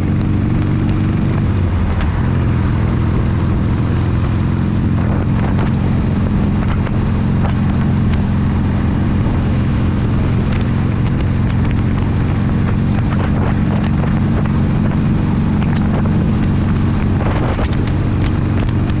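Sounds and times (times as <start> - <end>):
motorcycle engine running: 0.0 - 19.0
wind on microphone: 0.0 - 19.0.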